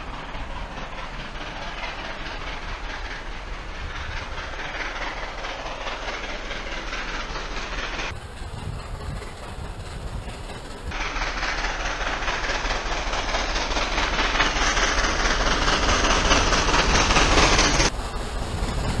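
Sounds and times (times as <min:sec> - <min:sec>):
train rushing on rails: 0:00.0 - 0:19.0.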